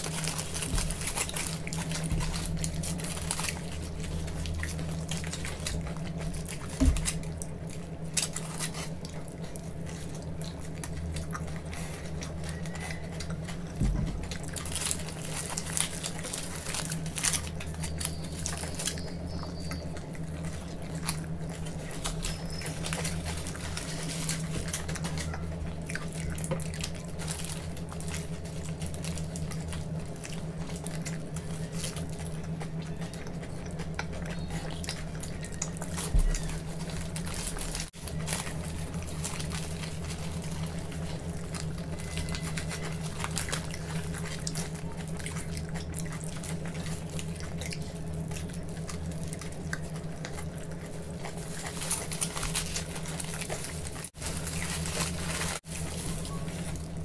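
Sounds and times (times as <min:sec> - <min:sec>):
wet chewing smacks and clicks: 0:00.0 - 0:54.2
low steady hum: 0:00.0 - 0:57.0.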